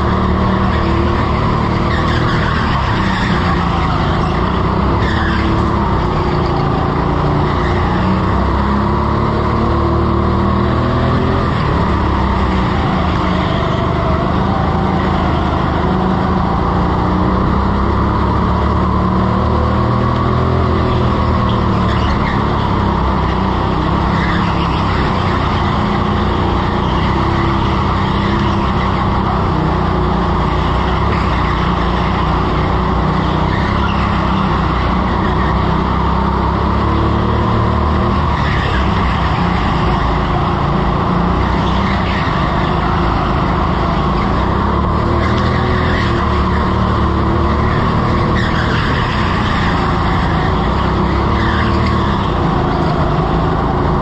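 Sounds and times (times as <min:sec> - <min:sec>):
go-kart motor hum: 0:00.0 - 0:54.0
tyre squeals: 0:00.0 - 0:54.0.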